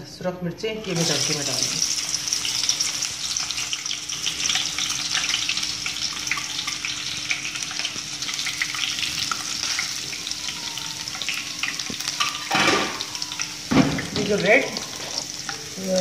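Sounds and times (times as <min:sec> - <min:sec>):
garlic sizzling in hot oil: 0:00.8 - 0:16.0.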